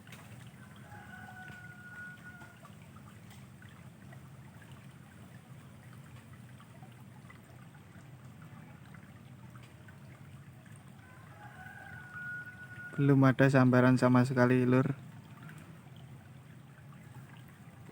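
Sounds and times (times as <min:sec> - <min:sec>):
small ticks and splashes: 0:00.0 - 0:17.9
stream running water: 0:00.0 - 0:17.9.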